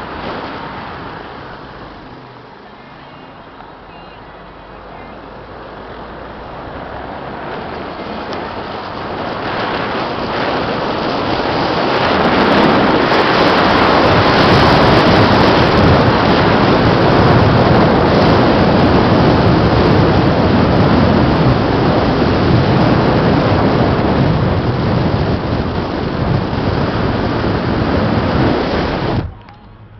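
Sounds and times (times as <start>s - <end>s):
wind noise on microphone: 0.0s - 29.9s.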